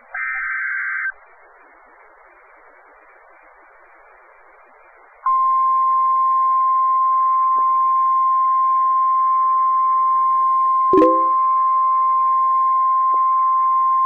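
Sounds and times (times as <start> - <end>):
faint radio hiss: 0.0 - 13.2.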